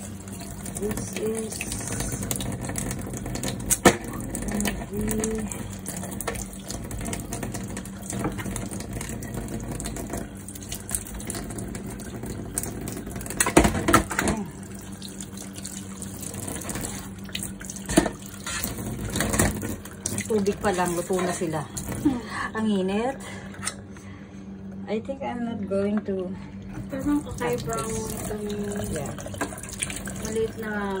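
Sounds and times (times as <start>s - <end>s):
tap water running into sink: 0.0s - 22.2s, 26.8s - 31.0s.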